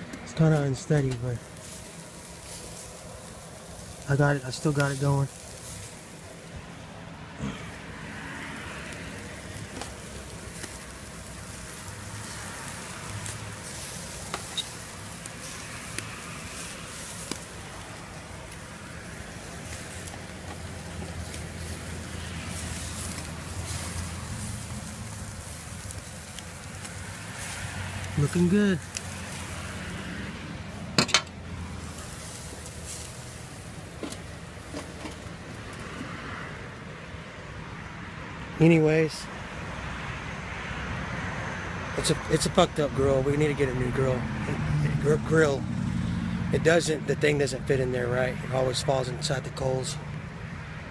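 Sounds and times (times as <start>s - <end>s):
steady background noise: 0.0s - 50.9s
meat sizzling on a grill: 0.3s - 37.9s, 39.3s - 50.9s.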